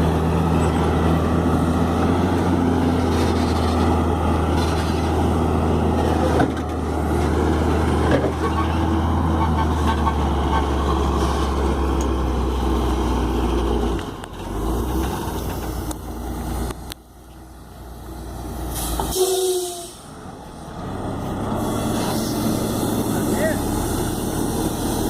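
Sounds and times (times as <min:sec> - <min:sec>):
heavy diesel engines running: 0:00.0 - 0:25.0.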